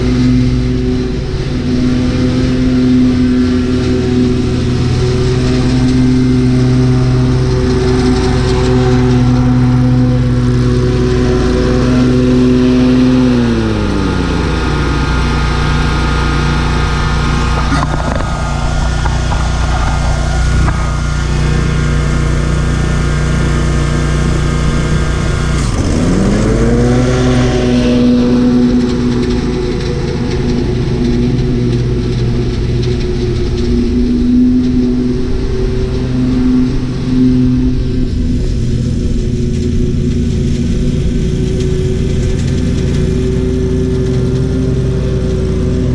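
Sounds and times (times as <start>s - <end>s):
lawn mower engine running: 0.0s - 45.9s.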